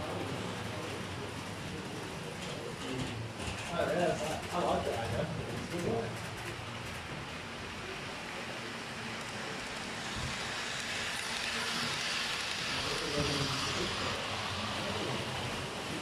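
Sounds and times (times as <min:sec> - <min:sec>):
model trains rolling on track: 0:00.0 - 0:16.0.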